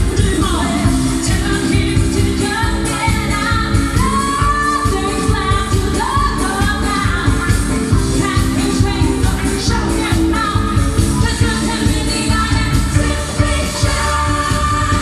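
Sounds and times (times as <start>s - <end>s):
disco dance music: 0.0s - 15.0s.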